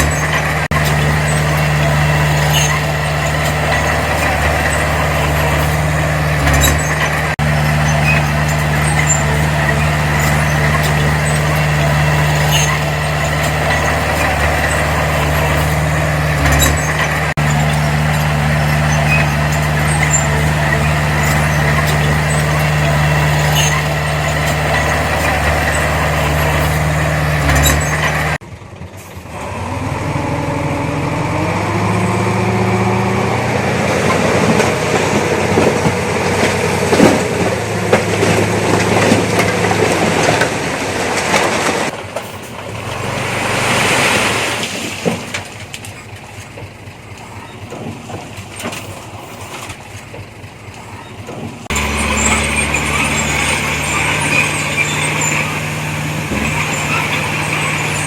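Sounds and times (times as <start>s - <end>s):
heavy diesel machinery engines: 0.0s - 58.0s.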